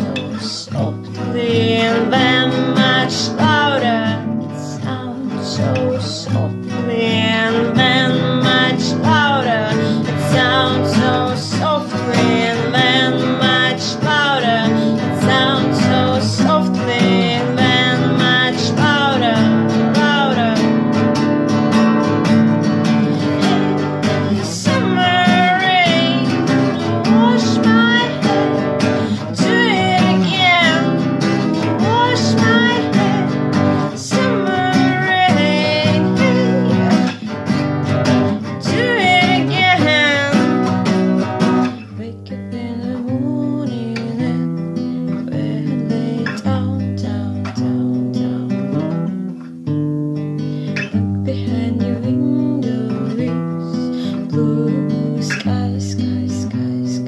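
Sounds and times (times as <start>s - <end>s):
person singing: 0.0s - 49.2s, 50.7s - 57.0s
strummed acoustic guitar: 0.0s - 57.0s.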